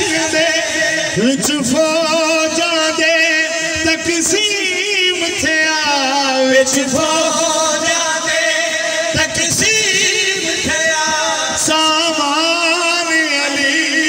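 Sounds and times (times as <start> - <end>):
man singing over a pa: 0.0 - 14.0.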